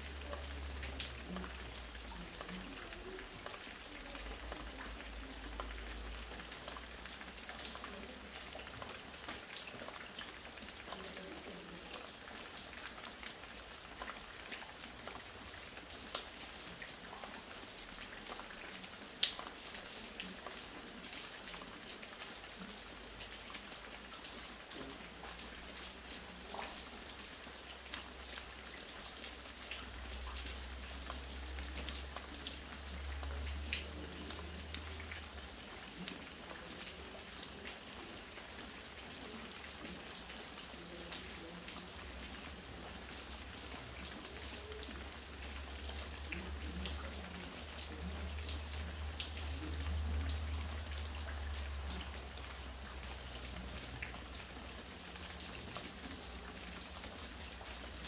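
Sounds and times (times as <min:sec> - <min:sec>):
light rain falling: 0:00.0 - 0:58.0
water dripping from roof: 0:00.0 - 0:58.0.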